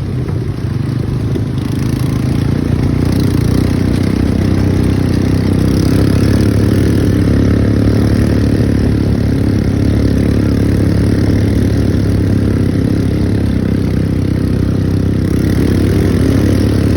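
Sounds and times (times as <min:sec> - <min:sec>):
atv engine running: 0:00.0 - 0:16.9.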